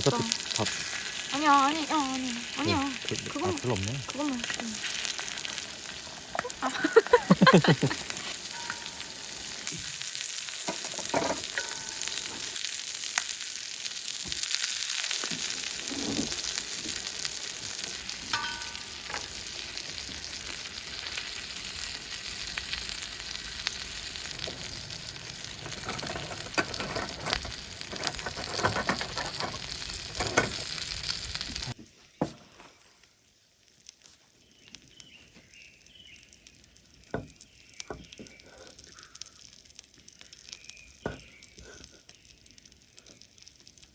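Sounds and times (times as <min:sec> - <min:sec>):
food sizzling in a hot pan: 0:00.0 - 0:43.9.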